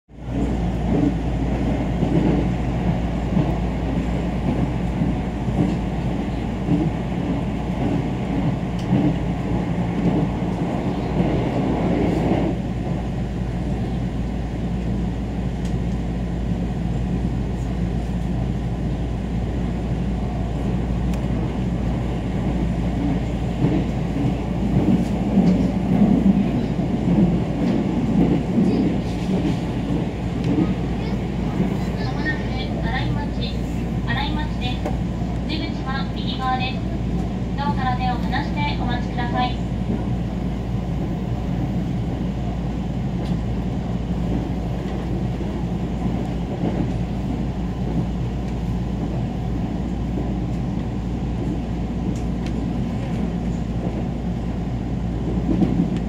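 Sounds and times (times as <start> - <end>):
train cabin rumble: 0.1 - 56.0.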